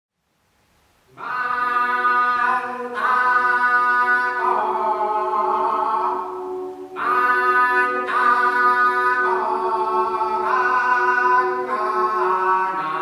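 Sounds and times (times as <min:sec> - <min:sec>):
choir singing a cappella: 0:01.1 - 0:13.0.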